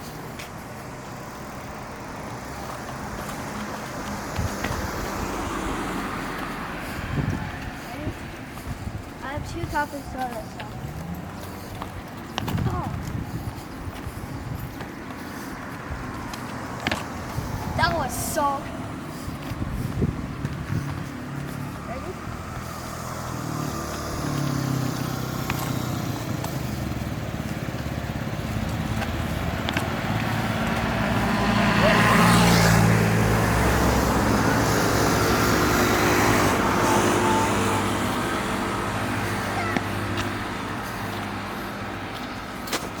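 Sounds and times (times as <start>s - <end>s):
vehicle engine passing by: 1.0s - 14.7s, 15.3s - 43.0s.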